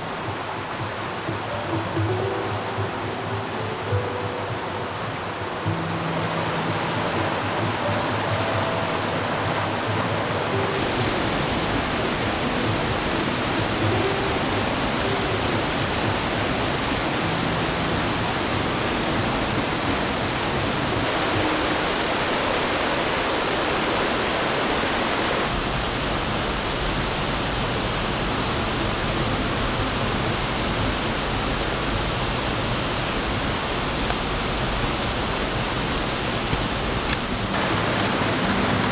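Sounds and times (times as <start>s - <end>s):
rushing flowing water: 0.0s - 38.9s.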